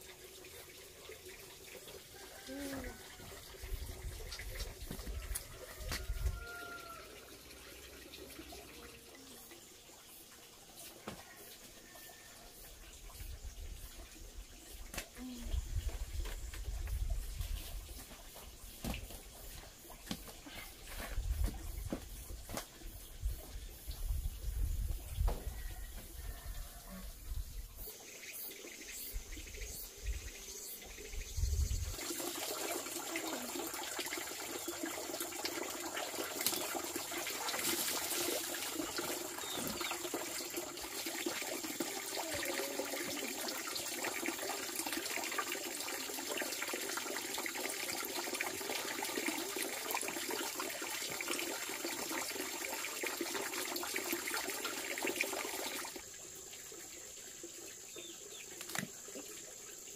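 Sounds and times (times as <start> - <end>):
running water rushing: 0.0 - 27.3, 27.9 - 59.9.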